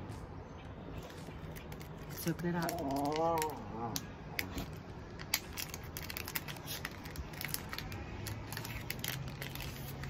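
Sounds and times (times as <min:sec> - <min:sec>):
putty container crackles and clicks: 0:01.0 - 0:10.0.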